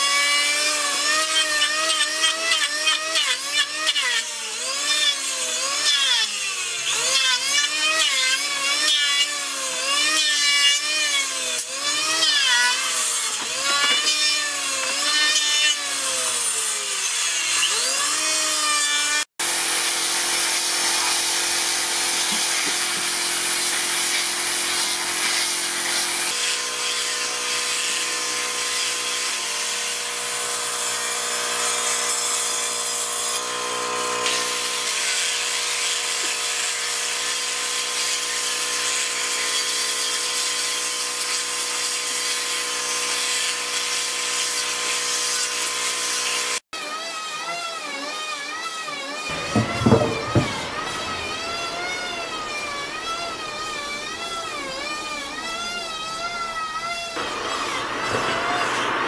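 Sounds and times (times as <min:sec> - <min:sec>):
electric planer shaving wood: 0:00.0 - 0:59.0
power tool steady whine: 0:00.0 - 0:59.0.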